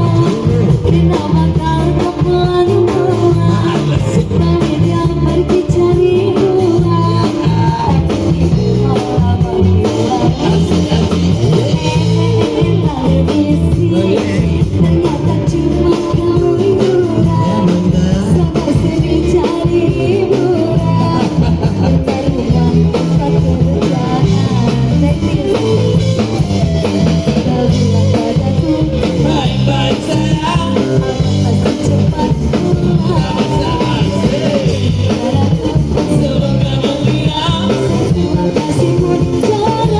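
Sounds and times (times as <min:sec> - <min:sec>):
drums with steady beat: 0:00.0 - 0:39.9
guitar: 0:00.0 - 0:39.9
person singing: 0:00.0 - 0:39.9.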